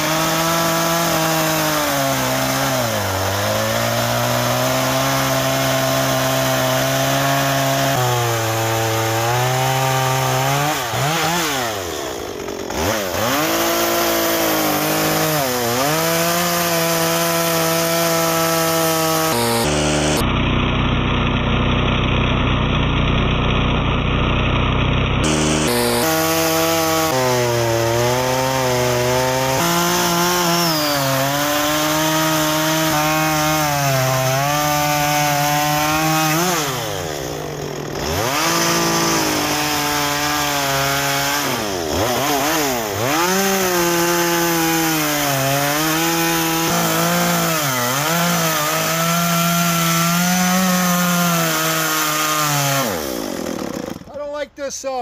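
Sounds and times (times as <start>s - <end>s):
chainsaw cutting log: 0.0s - 54.4s.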